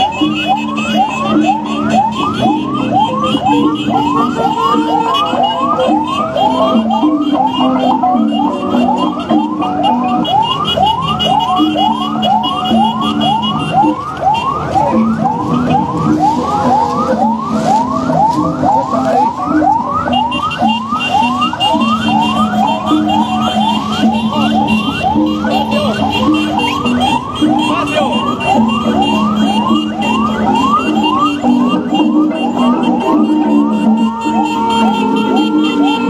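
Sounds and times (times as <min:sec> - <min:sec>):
electronic siren yelping: 0:00.0 - 0:36.0.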